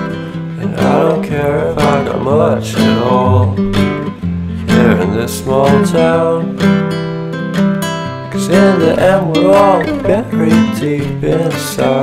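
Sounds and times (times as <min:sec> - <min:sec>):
song with strummed acoustic guitar: 0:00.0 - 0:12.0.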